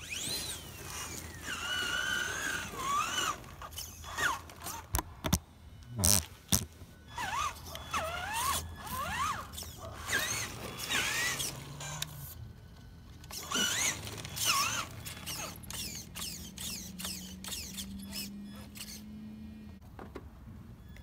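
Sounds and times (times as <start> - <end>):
electric motor whining: 0.0 - 19.8.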